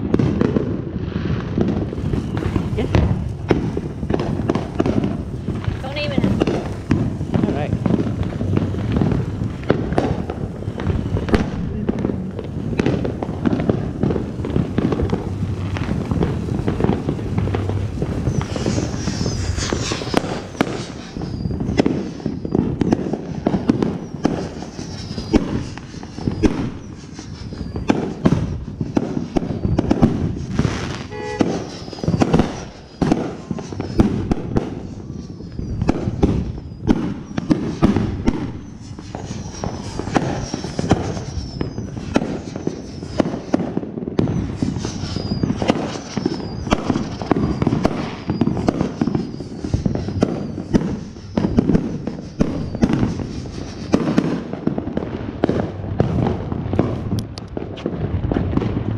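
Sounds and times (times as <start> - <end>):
firecracker pops and bangs: 0.0 - 58.9
whistling fireworks: 0.0 - 58.9.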